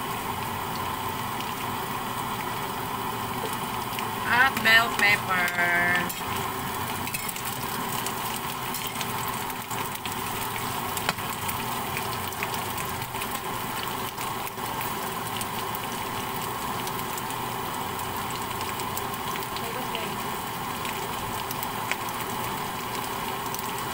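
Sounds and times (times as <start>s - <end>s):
vegetables sizzling in oil: 0.0s - 23.9s.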